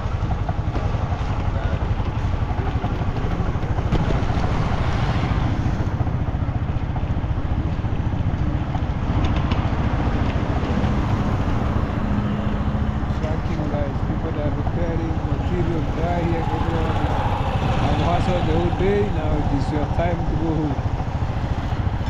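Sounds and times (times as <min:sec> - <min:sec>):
engine running with low pulsing: 0:00.0 - 0:22.0.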